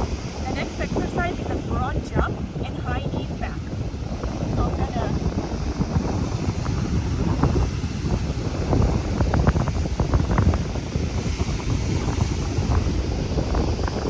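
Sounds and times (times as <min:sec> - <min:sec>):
ocean surf: 0:00.0 - 0:14.0
wind buffeting microphone: 0:00.0 - 0:14.0.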